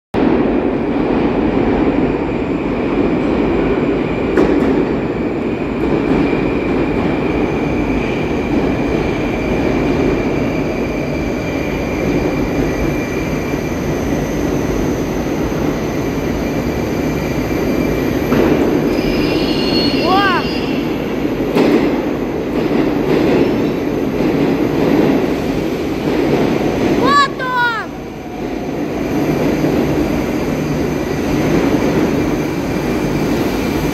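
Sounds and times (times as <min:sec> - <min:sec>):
high train whine: 0:00.2 - 0:33.9
train wheels rumbling: 0:00.2 - 0:33.9.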